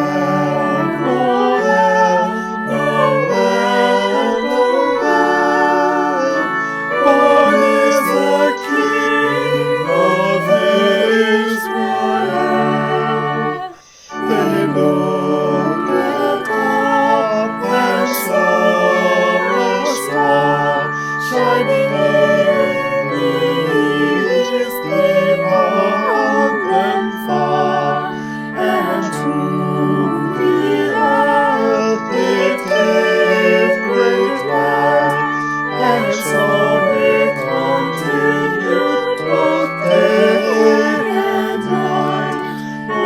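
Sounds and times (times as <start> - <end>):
organ music: 0.0 - 43.0.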